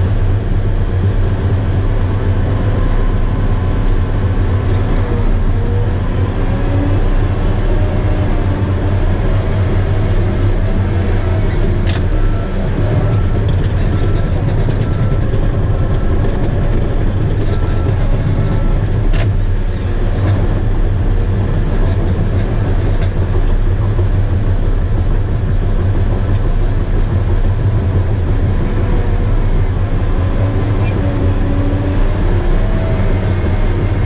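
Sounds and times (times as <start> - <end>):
bulldozer diesel engine drone: 0.0 - 34.0
steel tracks clanking: 0.0 - 34.0.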